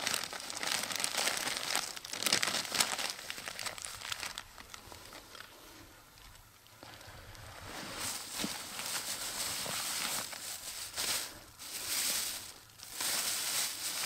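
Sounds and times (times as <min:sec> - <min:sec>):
crinkling rustling noise: 0:00.0 - 0:14.0.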